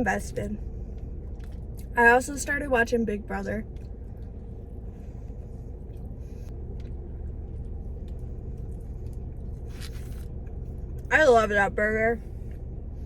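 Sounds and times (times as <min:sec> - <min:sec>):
car engine rumbling inside cabin: 0:00.0 - 0:13.0
faint steady hum: 0:00.0 - 0:13.0.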